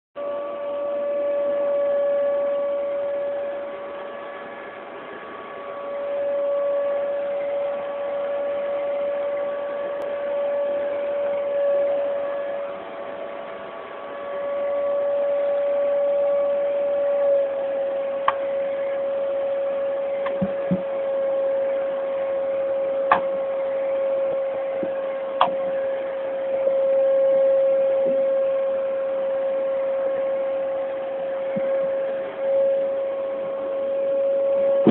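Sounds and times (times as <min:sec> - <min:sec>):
vacuum cleaner motor running: 0:00.2 - 0:34.9.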